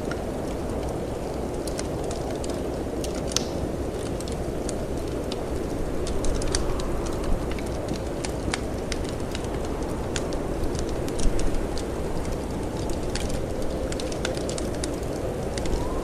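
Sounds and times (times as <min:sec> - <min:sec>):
low rumble of wind: 0:00.0 - 0:16.0
wood fire crackling: 0:00.0 - 0:16.0.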